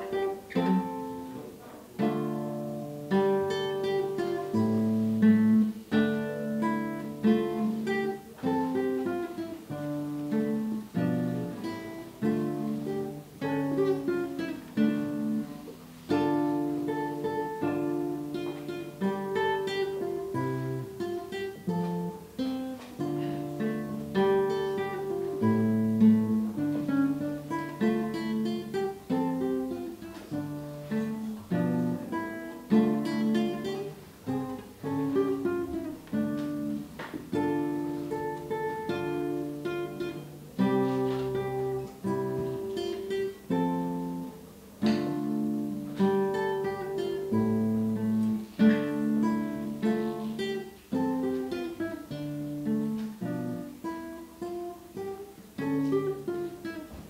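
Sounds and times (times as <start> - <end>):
classical guitar fingerstyle: 0.0 - 57.0.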